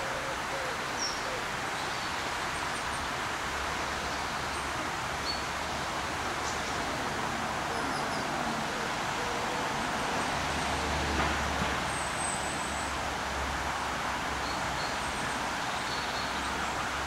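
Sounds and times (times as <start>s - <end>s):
steady rustling hiss: 0.0s - 17.0s.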